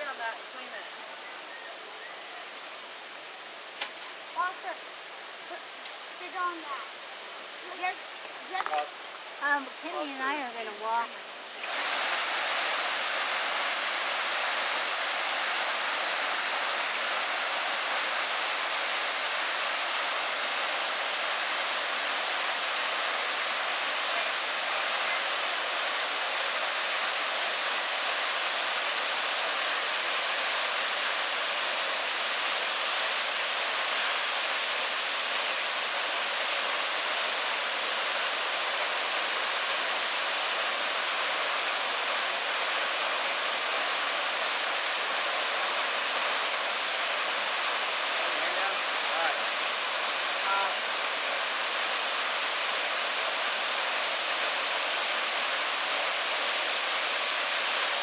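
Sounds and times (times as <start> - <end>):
waterfall rushing: 4.3 - 58.0.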